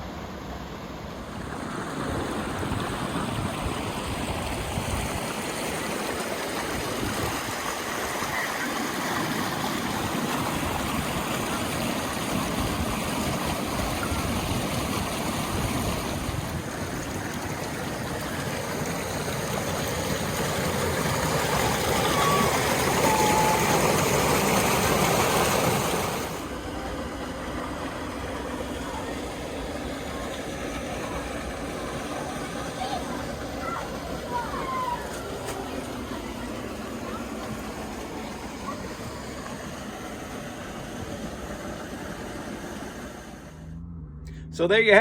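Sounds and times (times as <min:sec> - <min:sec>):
waterfall rushing: 0:01.3 - 0:43.7.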